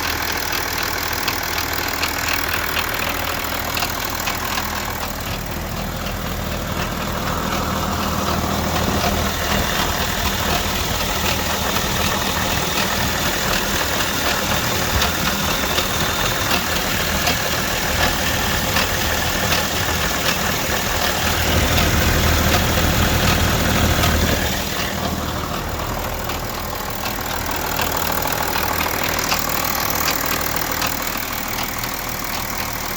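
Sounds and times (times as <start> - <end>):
diesel engine clattering: 0.0 - 32.9.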